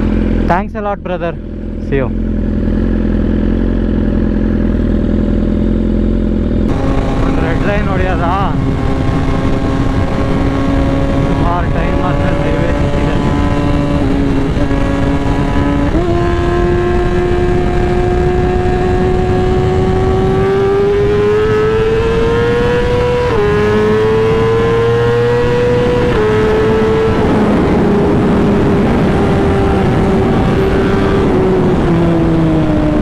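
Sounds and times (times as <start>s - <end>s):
motorcycle engine revving: 0.0s - 33.0s
rushing wind noise: 6.6s - 33.0s.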